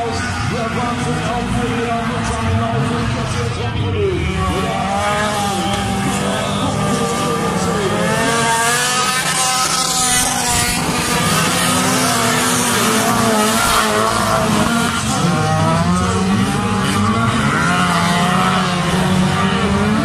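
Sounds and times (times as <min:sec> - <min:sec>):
stock car engines revving: 0:00.0 - 0:20.0.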